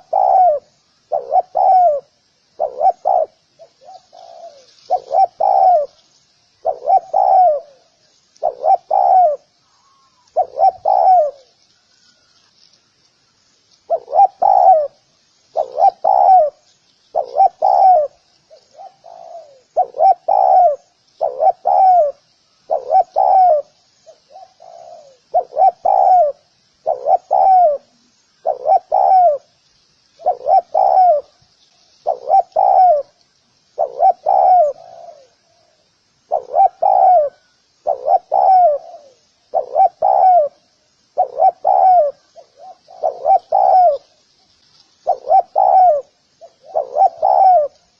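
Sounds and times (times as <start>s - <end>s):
dove cooing: 0.0s - 6.0s, 6.6s - 12.4s, 13.9s - 29.5s, 30.2s - 31.4s, 32.0s - 33.2s, 33.8s - 44.2s, 45.0s - 47.9s
faint high hiss: 0.0s - 47.9s.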